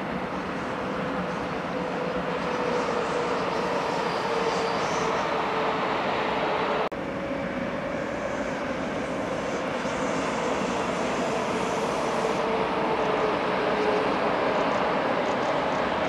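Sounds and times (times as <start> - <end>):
electric train rolling: 0.0 - 16.0.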